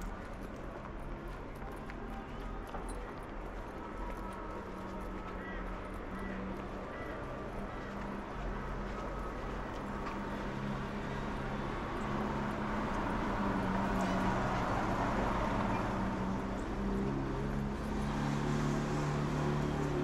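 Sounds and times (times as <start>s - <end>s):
street noise: 0.0s - 20.0s.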